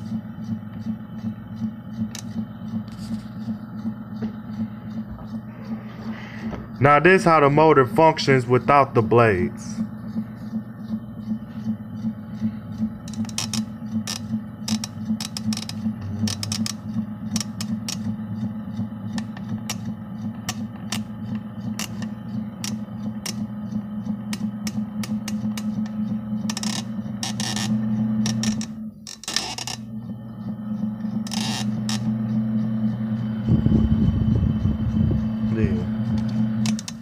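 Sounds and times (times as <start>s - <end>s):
electric fan motor humming: 0.0s - 37.0s.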